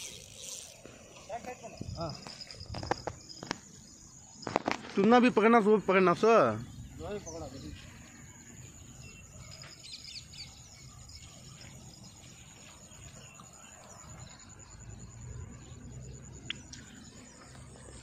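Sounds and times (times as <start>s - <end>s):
birds chirping: 0.0s - 18.0s
high insect drone: 0.0s - 18.0s.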